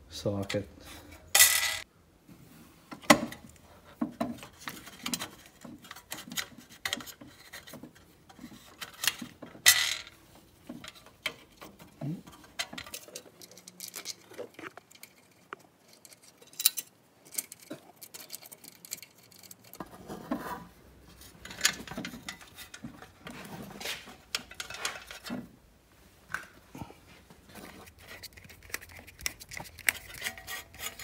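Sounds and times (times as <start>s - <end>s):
metal parts being handled: 0.5s - 1.8s, 4.1s - 19.8s, 21.1s - 25.5s, 27.5s - 31.0s.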